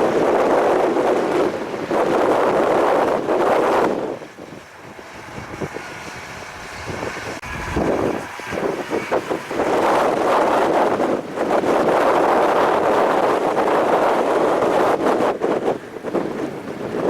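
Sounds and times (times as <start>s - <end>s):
wind gusting against microphone: 0.0s - 17.0s.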